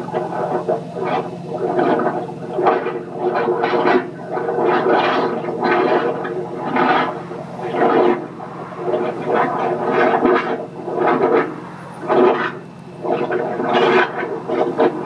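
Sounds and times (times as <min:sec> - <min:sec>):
machine low drone: 0:00.0 - 0:15.0.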